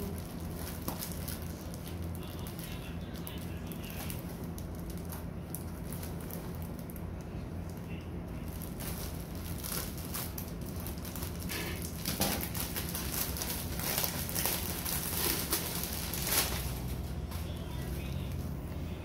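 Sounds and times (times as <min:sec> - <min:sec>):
plastic wrapping crinkling: 0:00.0 - 0:18.6.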